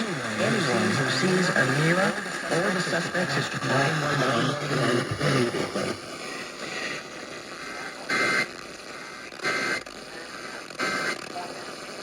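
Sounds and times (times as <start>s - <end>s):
bursts of steady tones: 0.0s - 12.0s
radio hiss and static: 0.0s - 12.0s.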